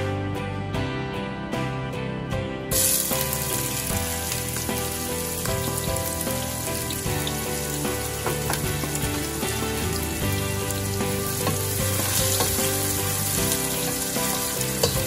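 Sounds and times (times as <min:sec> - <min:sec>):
background music: 0:00.0 - 0:15.0
onion sizzling in hot oil: 0:02.7 - 0:15.0.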